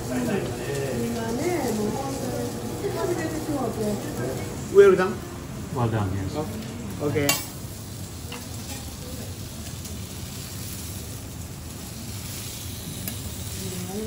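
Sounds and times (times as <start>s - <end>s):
steak sizzling on griddle: 0.0s - 14.0s.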